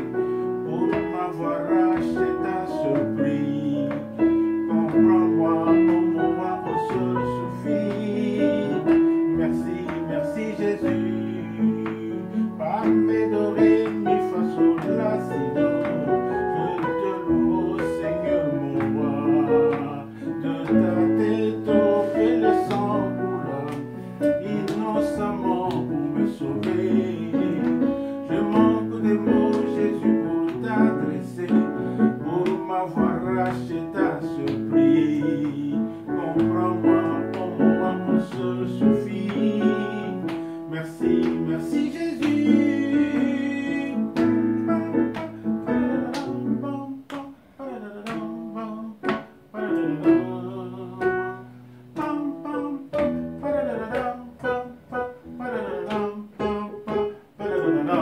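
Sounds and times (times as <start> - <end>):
electronic keyboard music: 0.0 - 40.3, 41.0 - 47.2.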